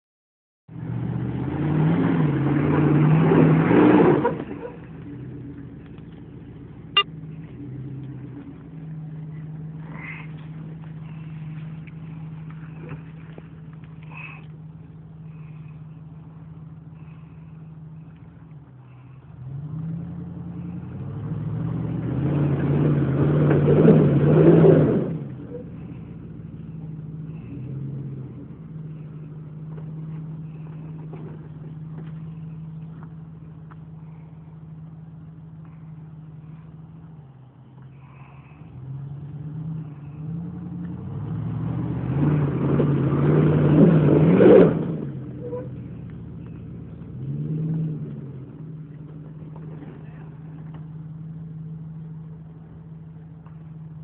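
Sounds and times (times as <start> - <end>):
engine revving and idling: 0.7 - 54.0.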